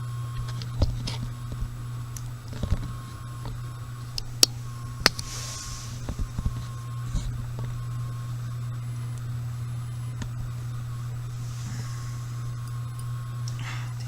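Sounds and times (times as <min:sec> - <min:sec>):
washing machine humming: 0:00.0 - 0:14.0.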